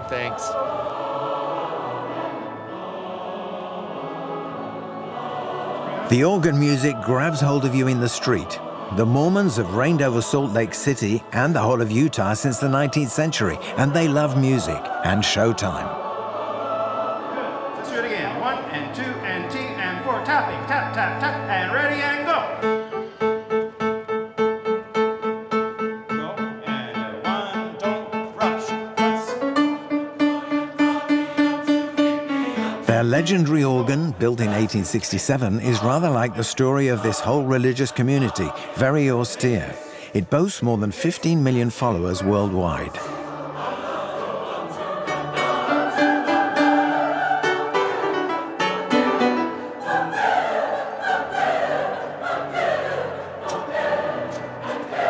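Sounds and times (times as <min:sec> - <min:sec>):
mixed choir singing: 0:00.0 - 0:23.3, 0:26.5 - 0:55.0
grand piano chords: 0:00.0 - 0:35.0, 0:42.6 - 0:55.0.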